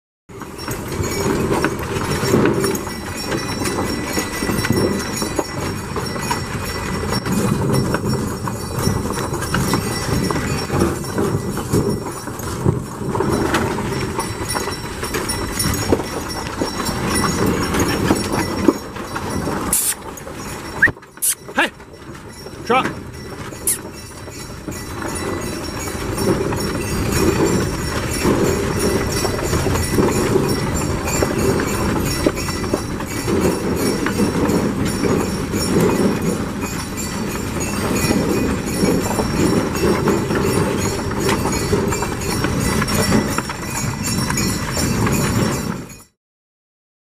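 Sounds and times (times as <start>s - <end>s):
hooves clip-clopping on dirt: 0.3s - 46.1s
wagon wheels and harness rattling: 0.3s - 46.2s.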